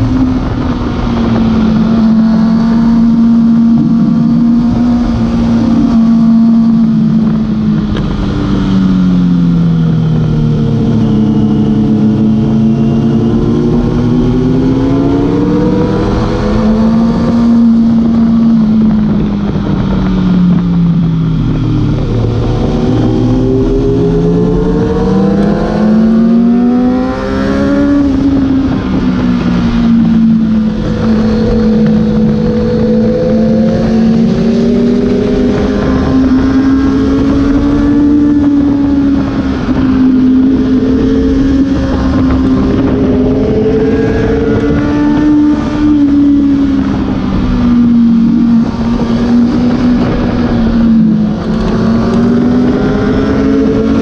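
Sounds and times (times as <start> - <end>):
motorcycle engine revving: 0.0 - 54.0
wind and road rush: 0.0 - 54.0.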